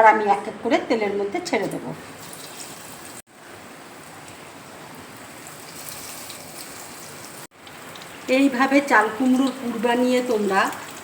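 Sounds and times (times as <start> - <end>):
food frying in hot oil: 2.0 - 11.0.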